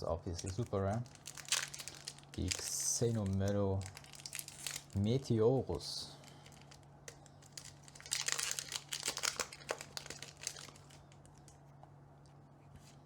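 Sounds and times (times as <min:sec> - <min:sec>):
foil wrapper crinkling: 0:00.0 - 0:05.3, 0:06.1 - 0:11.6
faint steady hum: 0:00.0 - 0:13.0.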